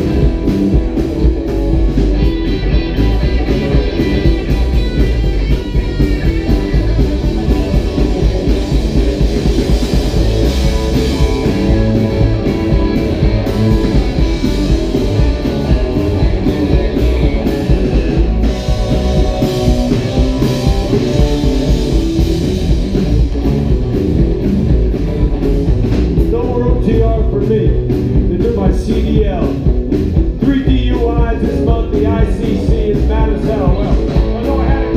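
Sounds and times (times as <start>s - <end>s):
rockabilly band playing: 0.0s - 34.9s.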